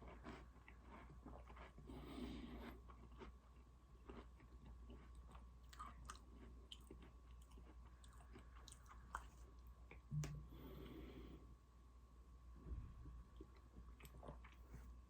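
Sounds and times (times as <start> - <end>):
close-miked cookie chewing: 0.0 - 11.4, 13.2 - 15.0.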